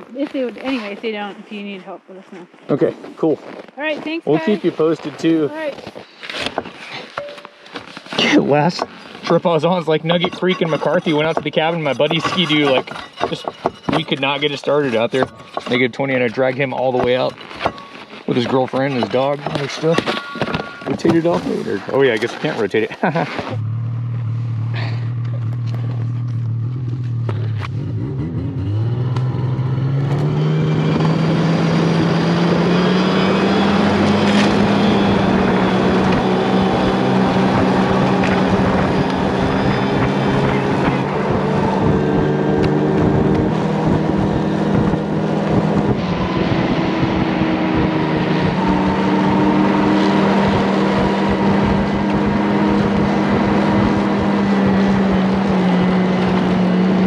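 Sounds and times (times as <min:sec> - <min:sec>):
snowmobile engine speeding up: 0:02.7 - 0:05.7, 0:08.2 - 0:17.3, 0:18.3 - 0:20.2, 0:20.8 - 0:57.0.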